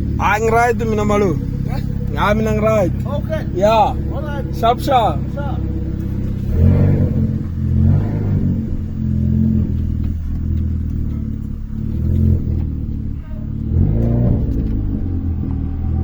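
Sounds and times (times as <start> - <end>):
turbo car engine under load: 0.0 - 16.0.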